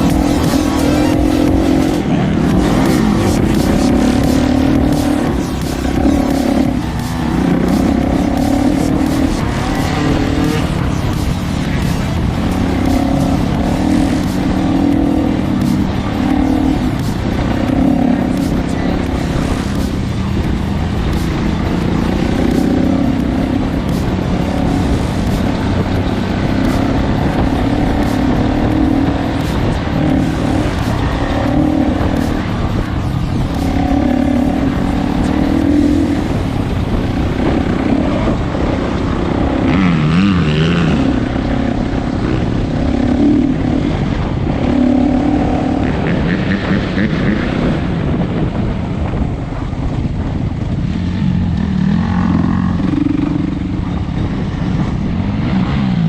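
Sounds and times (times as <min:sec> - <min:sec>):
dirt bike engine revving: 0:00.0 - 0:49.2, 0:49.8 - 0:56.0.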